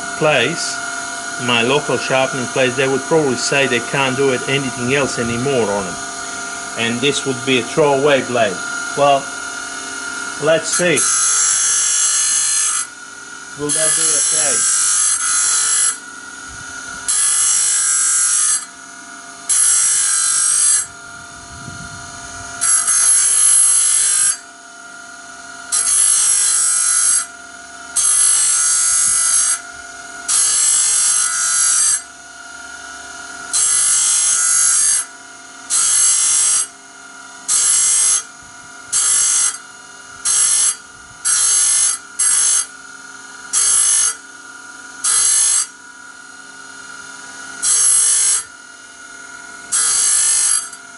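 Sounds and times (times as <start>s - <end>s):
grinding stone on saw teeth: 0.0s - 21.1s, 22.1s - 50.9s
electric grinder running: 0.0s - 50.9s.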